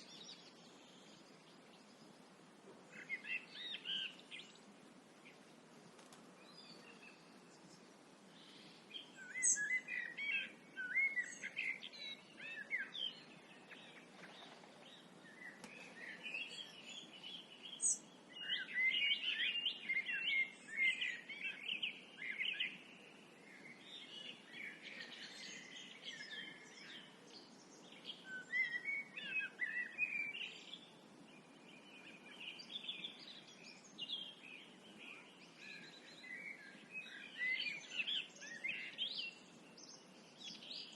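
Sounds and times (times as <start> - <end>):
low background noise: 0.0 - 40.9
songbirds singing: 0.0 - 40.9.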